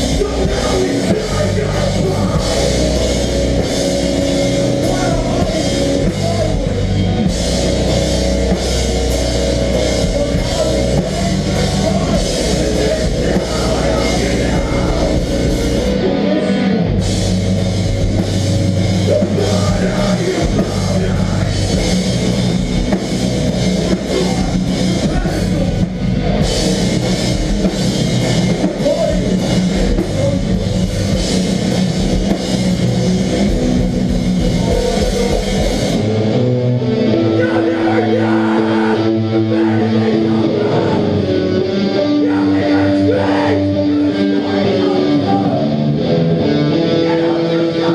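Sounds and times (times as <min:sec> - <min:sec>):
hardcore band playing live: 0:00.0 - 0:47.9.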